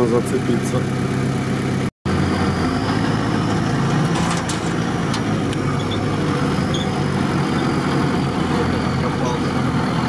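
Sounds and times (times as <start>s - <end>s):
engines running at low revs: 0.0s - 10.0s.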